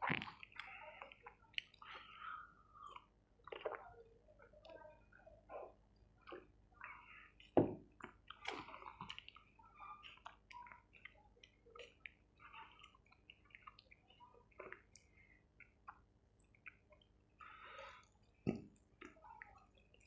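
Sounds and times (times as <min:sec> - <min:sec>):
chewing and wet mouth sounds: 0:00.0 - 0:20.0.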